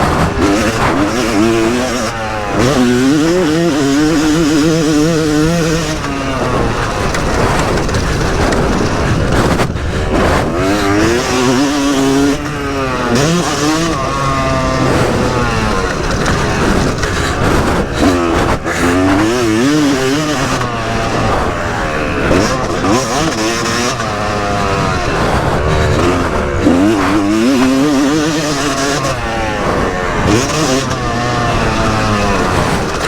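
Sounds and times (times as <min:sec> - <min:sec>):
two-stroke motocross engine revving: 0:00.0 - 0:33.0.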